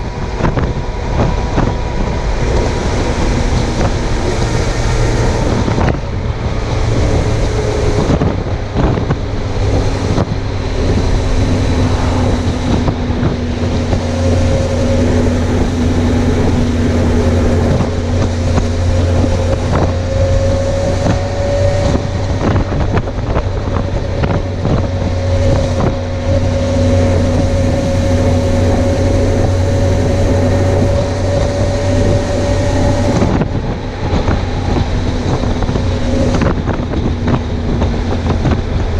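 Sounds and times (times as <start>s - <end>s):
motorcycle engine cruising: 0.0s - 38.9s
wind on microphone: 0.0s - 38.9s.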